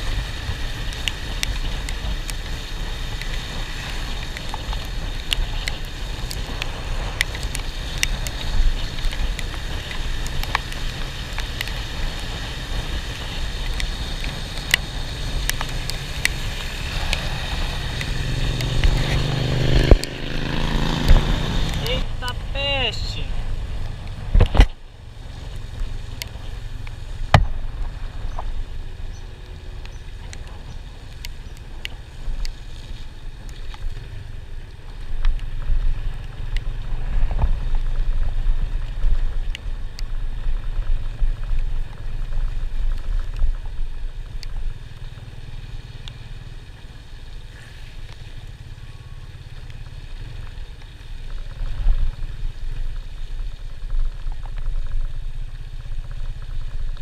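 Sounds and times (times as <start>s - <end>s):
vehicle rumbling: 0.0s - 57.0s.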